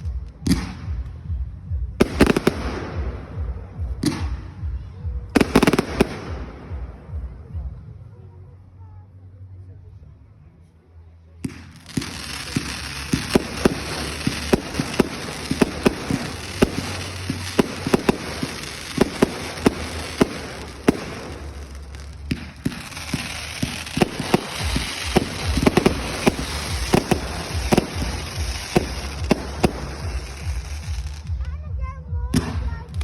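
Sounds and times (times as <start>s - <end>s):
fireworks crackling: 0.0s - 7.8s, 11.4s - 33.0s
fireworks banging: 0.0s - 8.0s, 11.4s - 33.0s.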